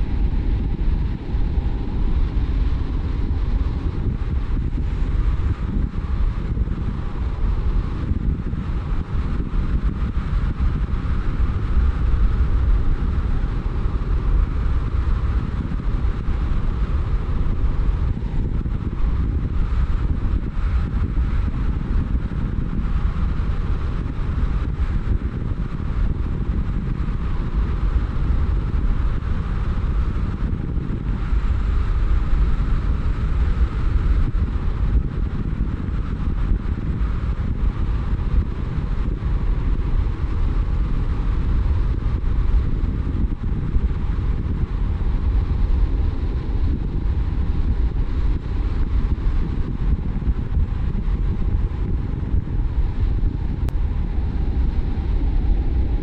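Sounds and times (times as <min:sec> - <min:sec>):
car road and wind noise: 0:00.0 - 0:56.0.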